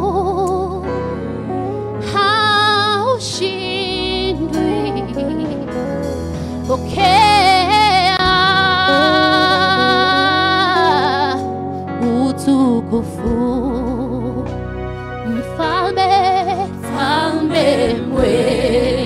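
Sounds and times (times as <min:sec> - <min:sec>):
instrumental backing: 0:00.0 - 0:19.0.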